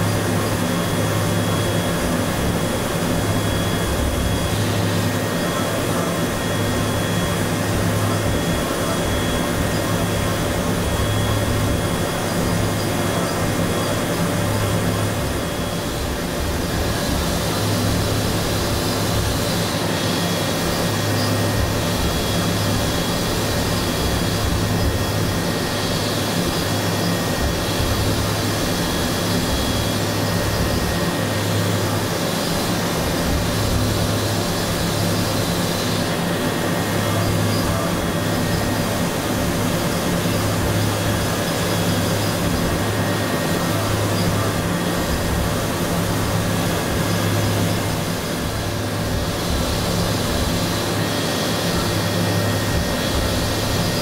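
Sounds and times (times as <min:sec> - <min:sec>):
low machine hum: 0:00.0 - 0:54.0
milling machine whine: 0:00.0 - 0:54.0.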